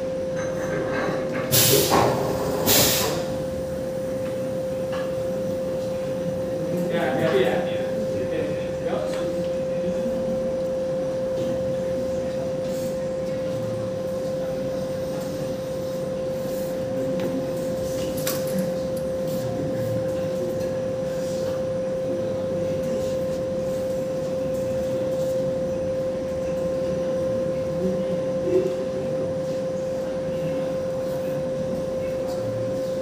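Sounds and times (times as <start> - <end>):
mechanical hum: 0.0 - 33.0.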